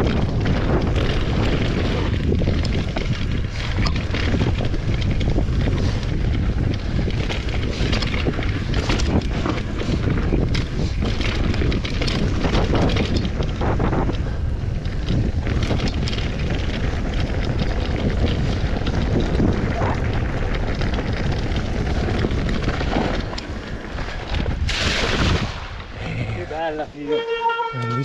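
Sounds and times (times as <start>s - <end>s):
bike rattling on rough trail: 0.0s - 28.0s
wind buffeting microphone: 0.0s - 28.0s.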